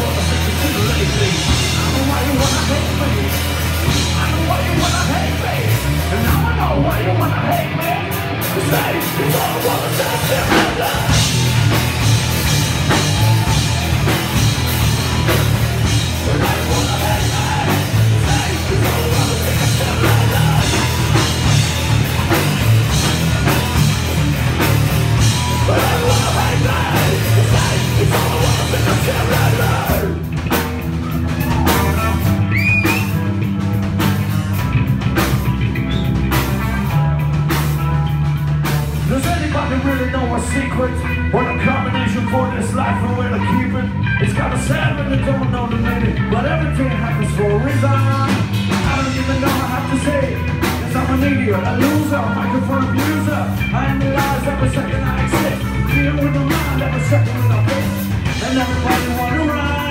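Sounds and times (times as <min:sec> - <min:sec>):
person yelling and singing: 0:00.0 - 0:33.6, 0:39.0 - 0:59.9
distorted electric guitar: 0:00.0 - 0:59.9
drum kit: 0:00.0 - 0:59.9.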